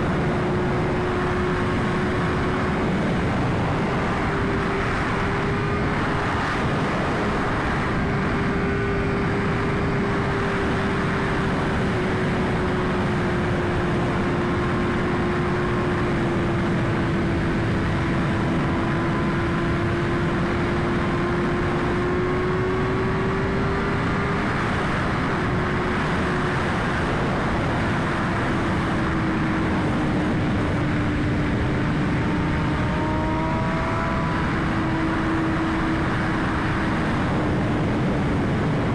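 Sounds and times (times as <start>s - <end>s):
wind rush on microphone: 0.0s - 38.9s.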